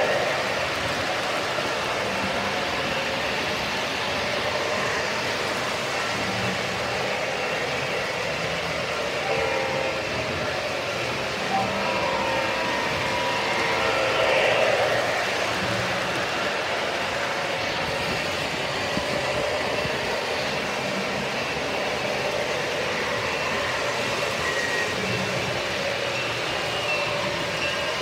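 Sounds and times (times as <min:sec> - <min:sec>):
light whine: 0:00.0 - 0:28.0
model train wheels rumbling on rails: 0:00.0 - 0:28.0.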